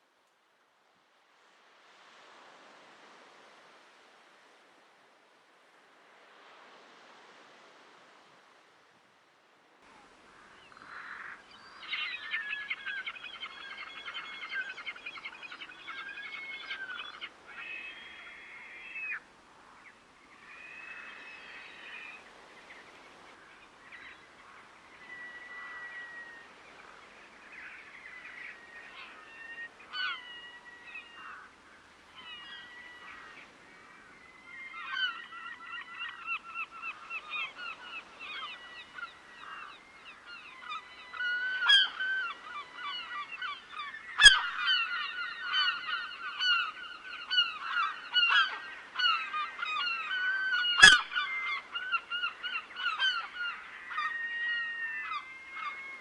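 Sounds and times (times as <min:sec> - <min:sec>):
waterbirds calling: 0:09.9 - 0:56.0.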